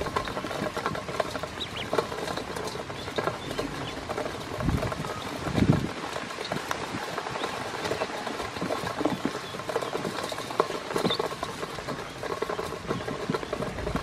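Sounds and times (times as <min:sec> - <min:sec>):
ducklings pecking metal bowl: 0:00.0 - 0:14.0.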